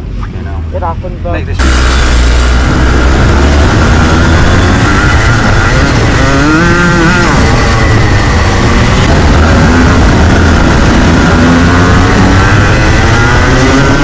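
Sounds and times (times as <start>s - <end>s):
heavy rumble: 0.0s - 14.0s
kart engine revving: 1.6s - 14.0s.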